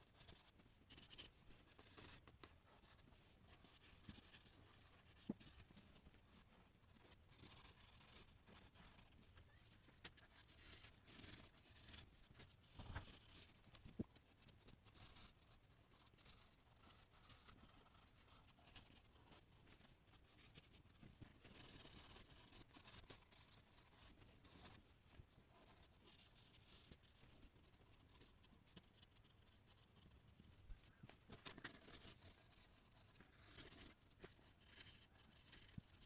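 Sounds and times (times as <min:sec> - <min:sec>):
pencil scratching on paper: 0:00.1 - 0:36.0.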